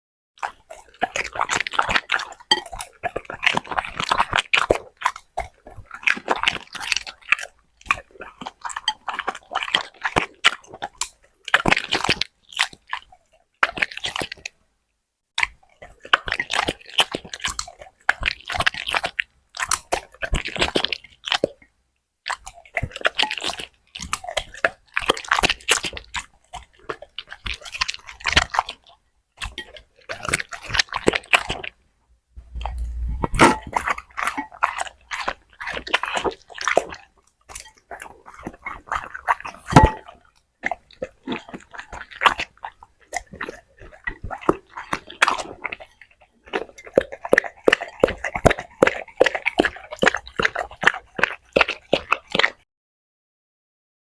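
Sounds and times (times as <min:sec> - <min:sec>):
dog crunching food: 0:00.4 - 0:14.6, 0:15.4 - 0:31.8, 0:32.4 - 0:52.6.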